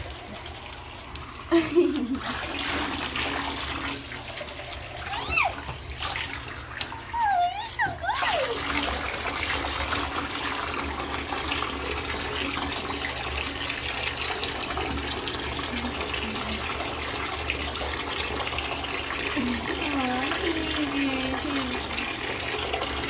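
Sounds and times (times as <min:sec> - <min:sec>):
water running from tap into bathtub: 0:00.0 - 0:23.0.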